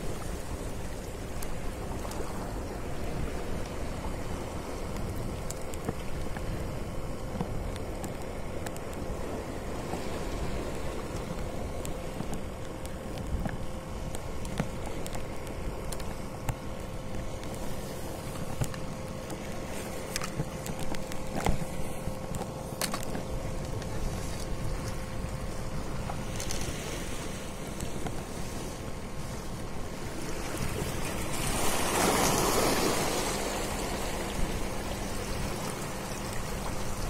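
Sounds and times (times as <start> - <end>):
sea wash: 0.0 - 37.0
steady hum: 0.0 - 37.0.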